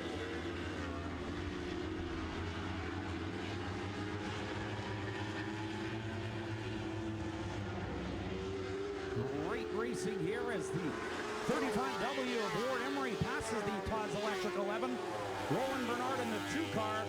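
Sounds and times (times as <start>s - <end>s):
racing car engines droning: 0.0s - 17.0s.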